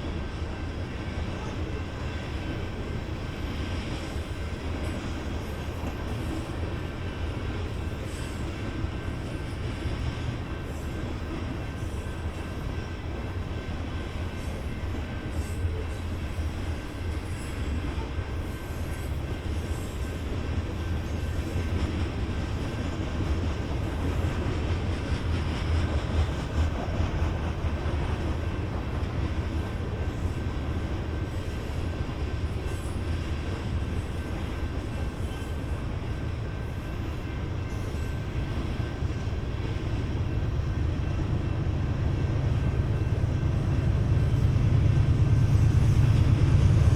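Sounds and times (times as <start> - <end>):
freight train rumbling on rails: 0.0 - 46.9.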